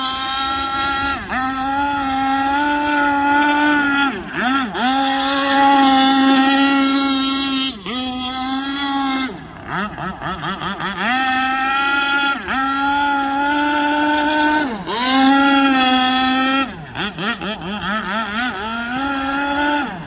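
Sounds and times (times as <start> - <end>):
two-stroke boat engine revving: 0.0 - 20.0.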